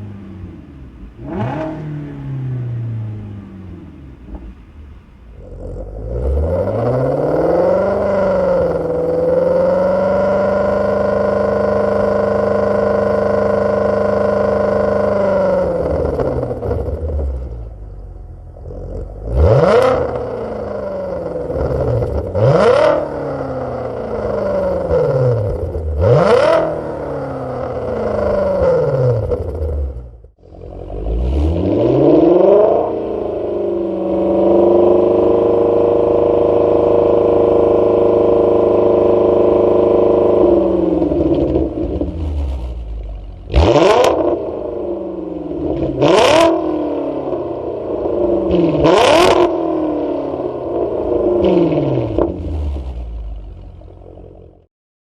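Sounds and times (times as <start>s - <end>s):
car engine revving: 0.0s - 54.6s.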